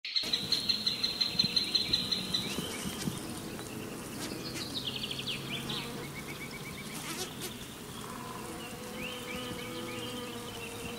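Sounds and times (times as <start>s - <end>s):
insect chirping: 0.1s - 10.9s.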